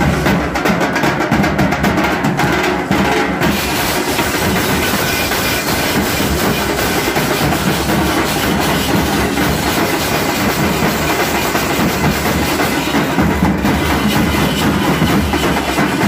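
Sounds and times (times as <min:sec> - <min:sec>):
barrel drums beaten fast: 0:00.0 - 0:16.0.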